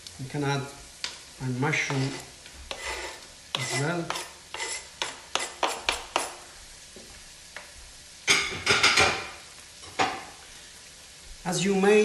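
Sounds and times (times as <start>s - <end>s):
light sizzling in a frying pan: 0.0s - 12.0s.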